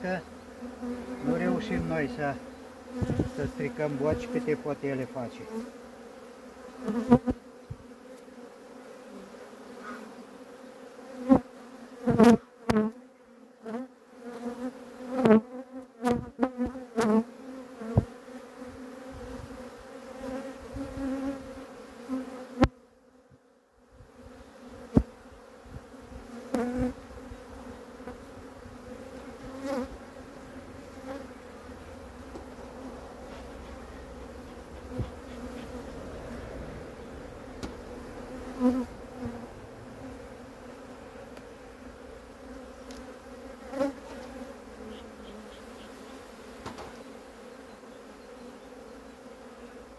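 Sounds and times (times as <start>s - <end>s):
honeybees buzzing: 0.0s - 49.9s.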